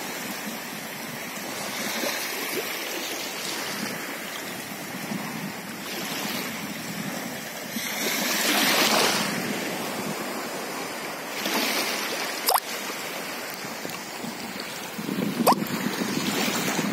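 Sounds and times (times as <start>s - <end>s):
small waves lapping on sand: 0.0s - 16.9s.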